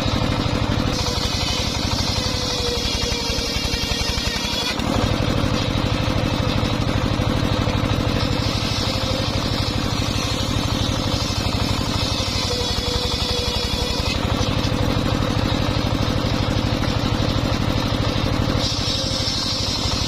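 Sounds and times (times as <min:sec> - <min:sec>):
engine running with pulsing beat: 0:00.0 - 0:20.0.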